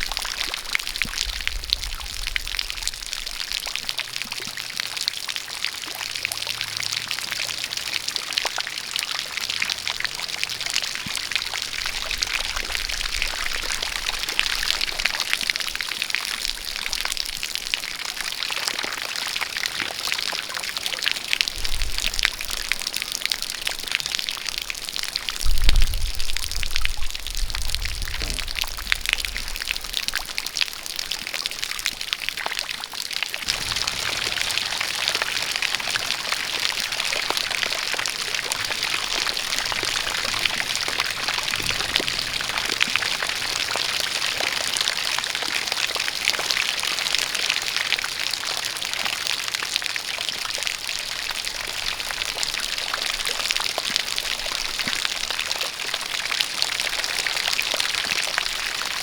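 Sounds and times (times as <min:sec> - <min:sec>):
steady rain: 0:00.0 - 0:59.0
water pouring from a spout: 0:00.0 - 0:59.0.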